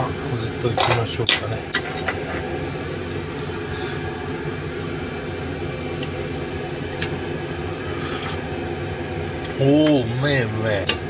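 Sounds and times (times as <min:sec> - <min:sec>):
kitchen mechanical whir: 0:00.0 - 0:11.0.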